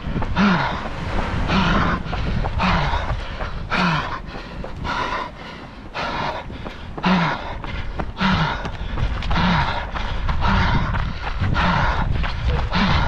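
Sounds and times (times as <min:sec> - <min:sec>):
low rumble: 0:00.0 - 0:13.0
runner breathing hard: 0:00.0 - 0:13.0.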